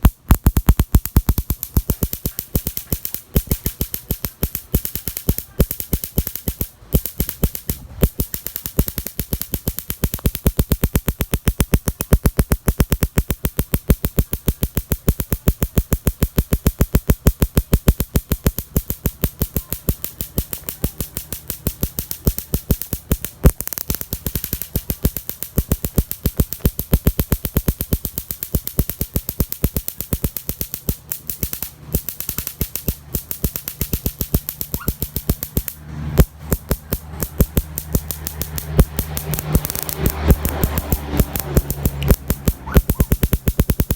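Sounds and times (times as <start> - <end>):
small motorcycle engine running: 0.0 - 43.9.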